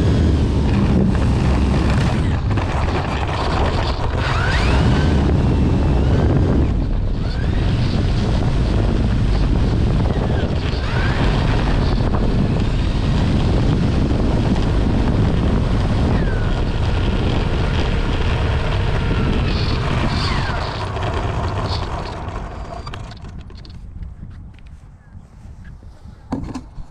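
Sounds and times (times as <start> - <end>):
electric motor and propeller whining: 0.0 - 24.8
wind buffeting microphone: 0.0 - 26.9.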